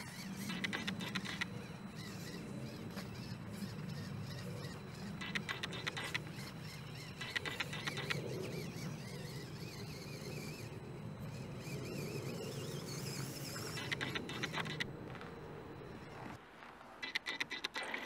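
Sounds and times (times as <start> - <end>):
rc car motor whine: 0.0 - 16.4.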